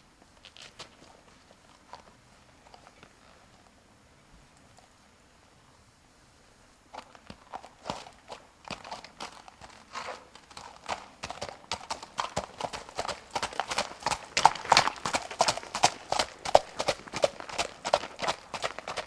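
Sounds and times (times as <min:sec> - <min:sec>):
hoofbeats on dirt: 0:00.0 - 0:03.5, 0:06.9 - 0:19.0.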